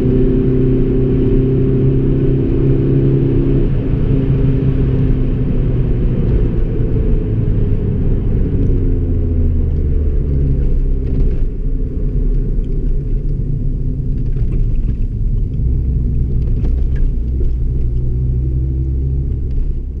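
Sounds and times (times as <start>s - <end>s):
car engine rumbling while driving: 0.0s - 20.0s.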